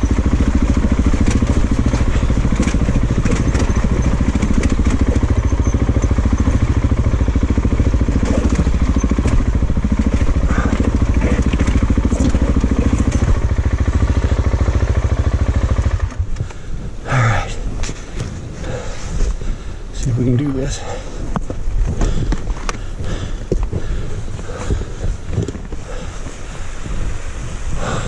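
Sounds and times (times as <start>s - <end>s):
motorcycle engine running: 0.0s - 19.9s, 20.9s - 28.0s.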